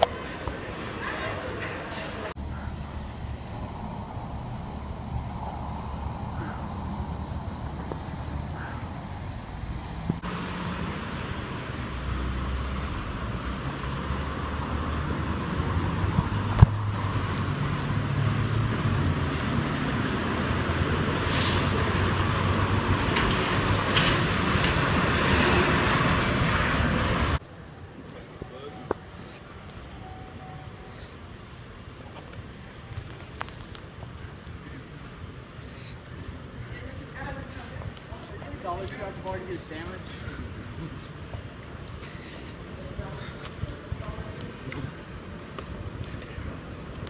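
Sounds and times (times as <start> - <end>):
vehicle traffic rumble: 0.0 - 47.0.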